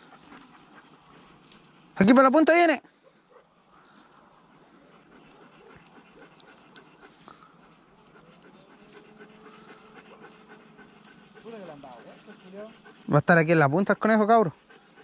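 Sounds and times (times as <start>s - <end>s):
dog panting: 0.0s - 2.3s, 3.0s - 15.0s.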